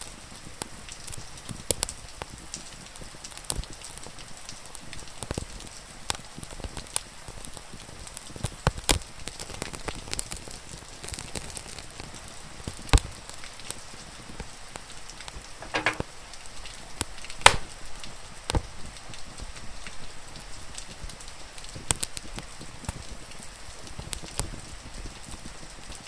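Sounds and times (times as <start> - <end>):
rain falling: 0.0 - 26.0
wood fire crackling and popping: 4.8 - 26.0.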